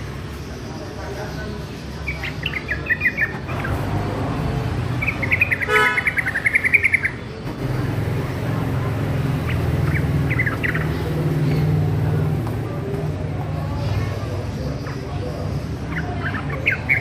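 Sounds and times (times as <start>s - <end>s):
bird chattering song: 0.0s - 17.0s.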